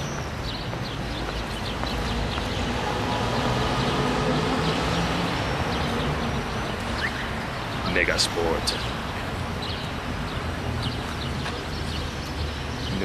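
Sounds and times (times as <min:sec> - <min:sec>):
birds chirping: 0:00.0 - 0:13.0
traffic hum: 0:00.0 - 0:13.0.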